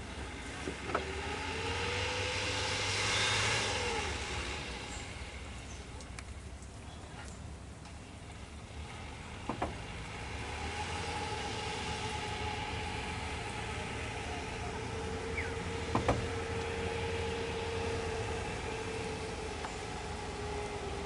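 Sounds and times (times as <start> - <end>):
engine running with low rumble: 0.0 - 21.0.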